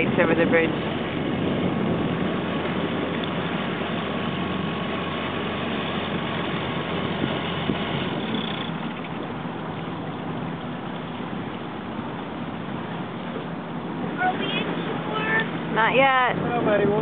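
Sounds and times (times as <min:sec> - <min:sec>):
boat engine droning: 0:00.0 - 0:17.0
water noise: 0:00.0 - 0:17.0
wind noise: 0:00.0 - 0:17.0.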